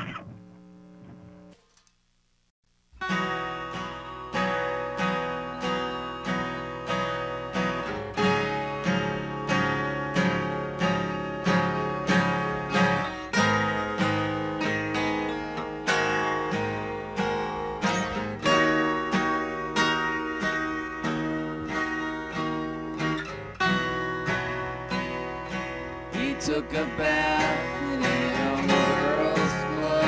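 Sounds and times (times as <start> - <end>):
guitar strummed: 2.9 - 30.0.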